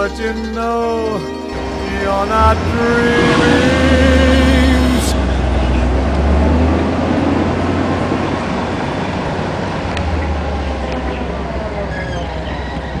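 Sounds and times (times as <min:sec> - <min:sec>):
car engine and road noise: 0:01.4 - 0:13.0.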